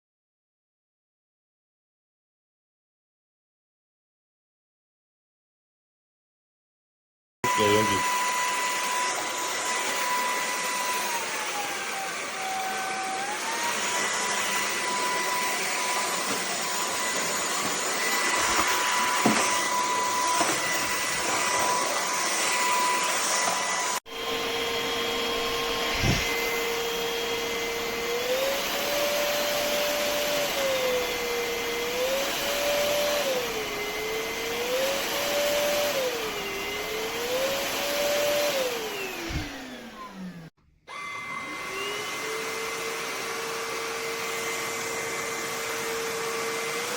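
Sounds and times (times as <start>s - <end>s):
stick vacuum running: 7.4s - 46.9s.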